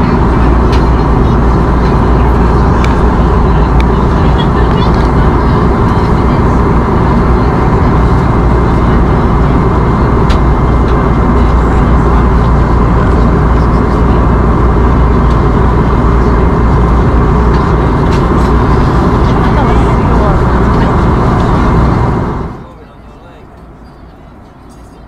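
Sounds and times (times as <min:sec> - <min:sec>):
airflow rush over fuselage: 0:00.0 - 0:22.7
jet engine hum: 0:00.0 - 0:25.0.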